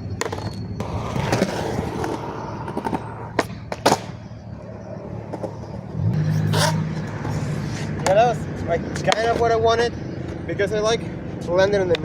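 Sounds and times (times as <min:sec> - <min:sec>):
passing motor vehicle hum: 0:00.0 - 0:12.0
skateboard wheels rolling on concrete: 0:00.0 - 0:12.0.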